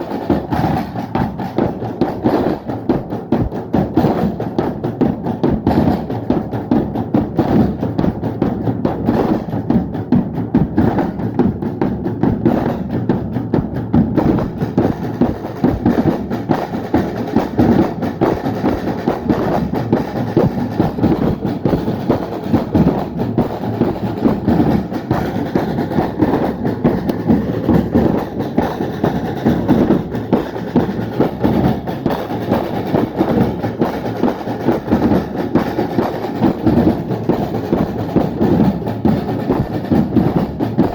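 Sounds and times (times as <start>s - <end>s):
drum band playing: 0.0s - 40.9s.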